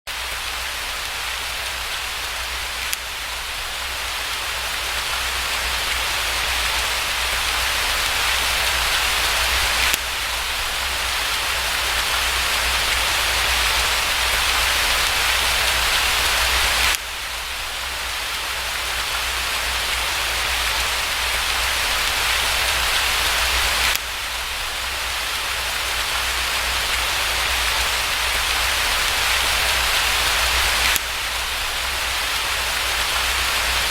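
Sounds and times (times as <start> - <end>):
steady rain: 0.1 - 33.9.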